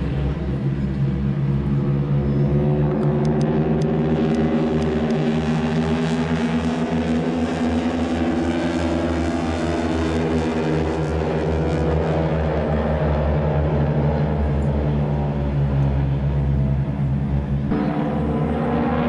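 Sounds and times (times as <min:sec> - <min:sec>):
airplane engine droning: 0:00.0 - 0:19.0.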